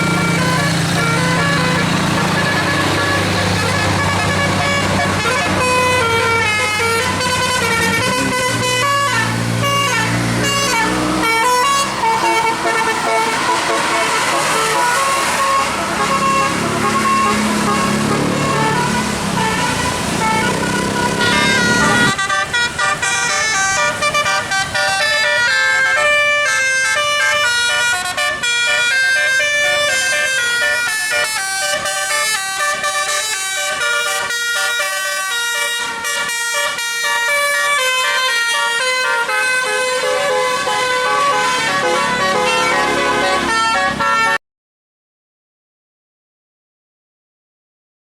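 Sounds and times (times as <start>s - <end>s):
bus engine noise: 0.0s - 44.4s
musical air horn melody: 0.0s - 44.4s.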